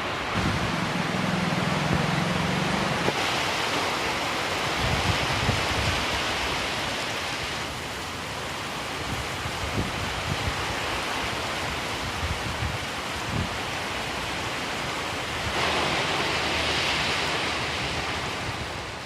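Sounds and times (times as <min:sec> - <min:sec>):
wind buffeting the microphone: 0:00.0 - 0:03.6, 0:04.5 - 0:19.0
strong gusty wind rushing: 0:00.0 - 0:19.0.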